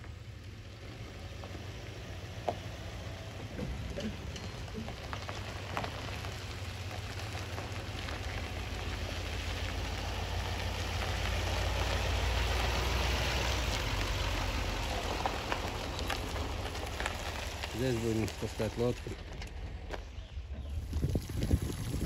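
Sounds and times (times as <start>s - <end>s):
rain and wet tyres hissing: 0.0s - 19.2s, 20.6s - 22.0s
car rumbling on road: 0.0s - 22.0s.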